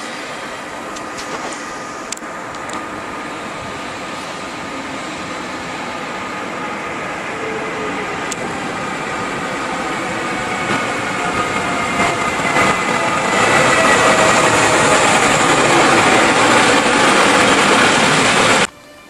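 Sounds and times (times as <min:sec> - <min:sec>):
electric locomotive running slowly: 0:00.0 - 0:19.0
steady high whine: 0:00.0 - 0:19.0.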